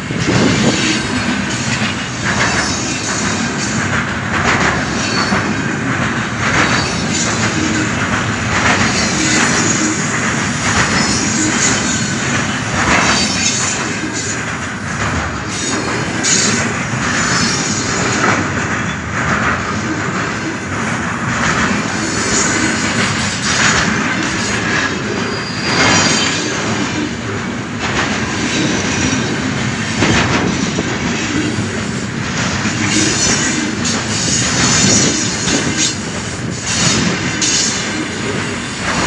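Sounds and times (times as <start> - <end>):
train wheels rolling on rails: 0.0 - 39.0.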